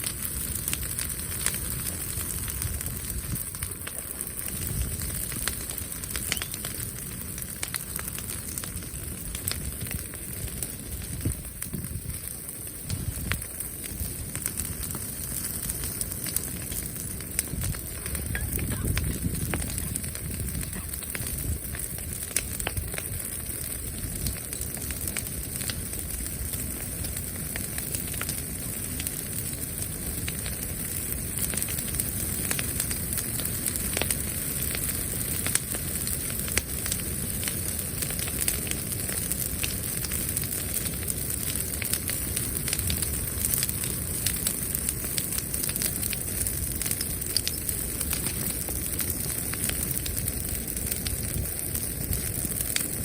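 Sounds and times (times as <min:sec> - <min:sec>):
bonfire crackling and popping: 0:00.0 - 0:53.0
fire hiss: 0:00.0 - 0:53.0.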